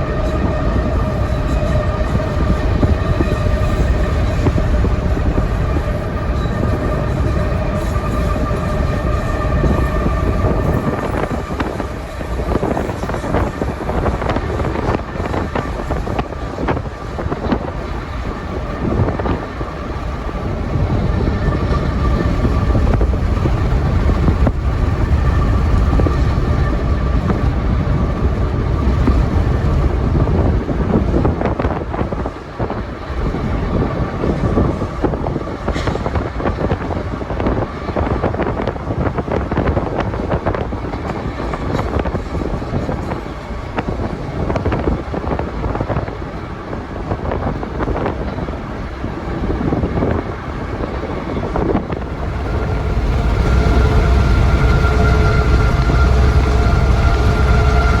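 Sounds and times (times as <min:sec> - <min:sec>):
freight train rumbling: 0:00.0 - 0:58.0
wind noise on microphone: 0:00.0 - 0:58.0.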